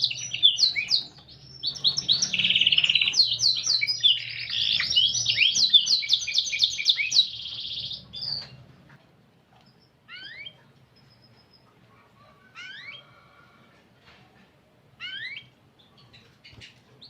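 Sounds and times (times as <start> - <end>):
canary singing: 0.0 - 8.8, 9.7 - 13.3, 15.0 - 16.8.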